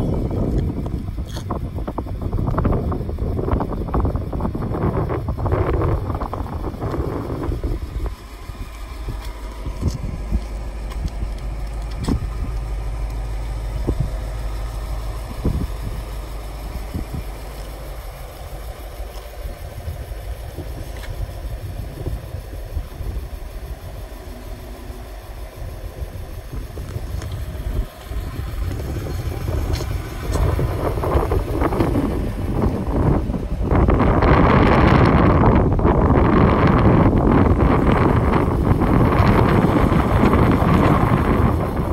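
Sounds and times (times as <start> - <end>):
engine idling: 0.0 - 41.9
wind buffeting microphone: 0.0 - 41.9.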